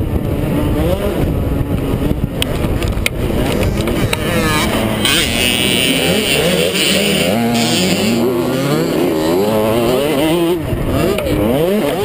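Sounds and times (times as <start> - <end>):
motocross bike engine revving: 0.2 - 12.0.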